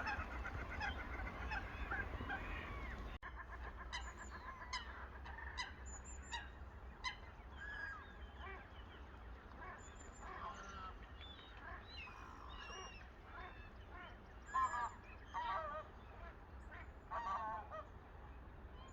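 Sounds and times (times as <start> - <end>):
waterbirds calling: 0.0 - 18.9.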